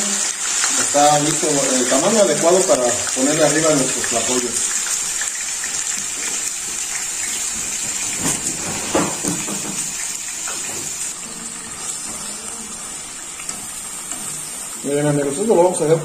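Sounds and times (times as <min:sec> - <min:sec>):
meat sizzling in hot oil: 0:00.0 - 0:16.0.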